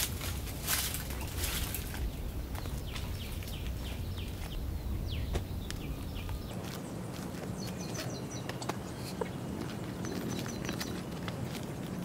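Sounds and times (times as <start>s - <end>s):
bird chirping: 1.1s - 11.2s.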